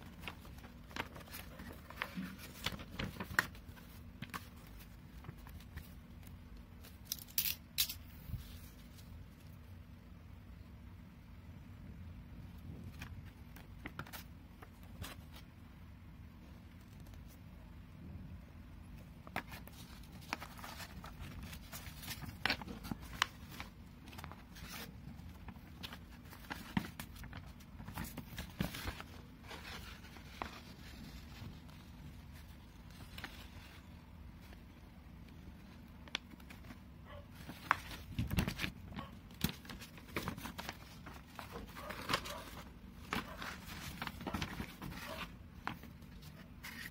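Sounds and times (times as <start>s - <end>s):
paper rustling and crinkling: 0.0s - 7.5s, 12.7s - 15.5s, 19.2s - 46.9s
low steady hum: 0.0s - 46.9s.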